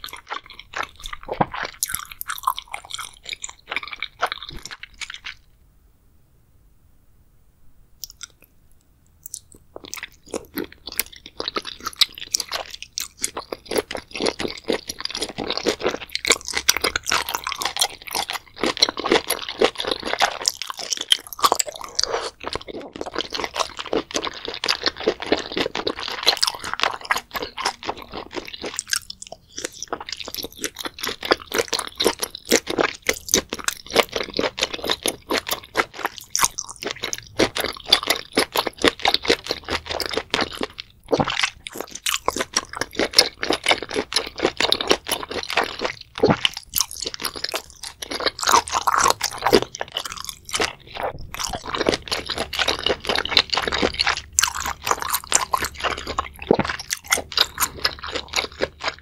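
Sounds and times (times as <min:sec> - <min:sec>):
wet crunchy chewing: 0:00.0 - 0:05.5, 0:08.0 - 0:08.5, 0:09.2 - 0:59.0.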